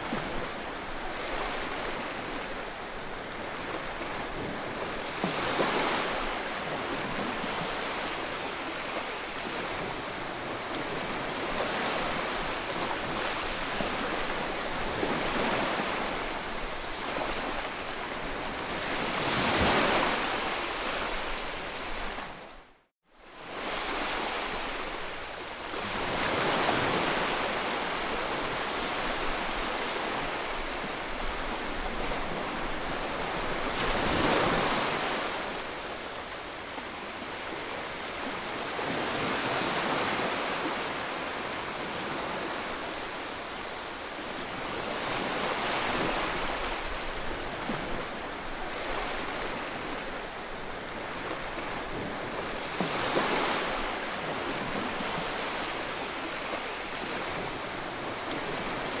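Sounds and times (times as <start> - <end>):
sea waves breaking: 0.0 - 22.5, 25.7 - 59.0.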